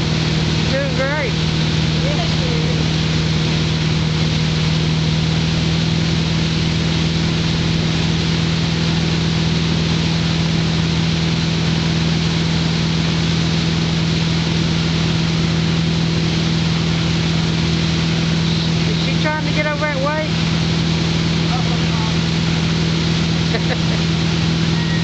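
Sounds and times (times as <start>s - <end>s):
boat engine running steadily: 0.0s - 25.0s.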